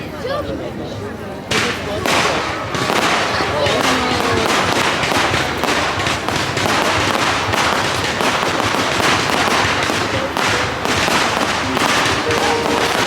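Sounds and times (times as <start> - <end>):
fireworks bangs and crackling: 1.4 - 13.0.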